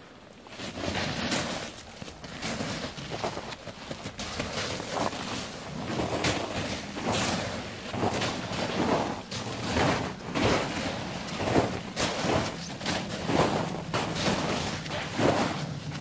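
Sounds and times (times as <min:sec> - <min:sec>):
footsteps crunching through snow: 0:00.0 - 0:16.0
clothing swishing: 0:00.4 - 0:16.0.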